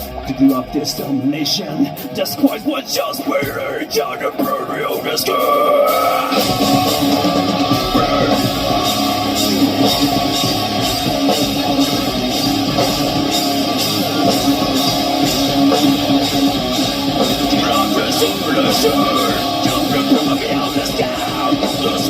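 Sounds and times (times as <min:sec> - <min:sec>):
drum kit steady beat: 0:00.0 - 0:22.0
electric guitars: 0:00.0 - 0:22.0.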